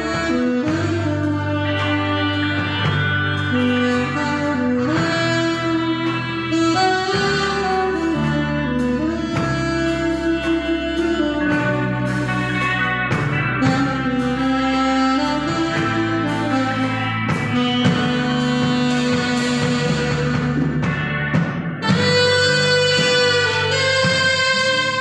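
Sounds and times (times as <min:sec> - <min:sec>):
electric guitar accompaniment: 0:00.0 - 0:25.0
saxophone long held notes: 0:00.0 - 0:25.0.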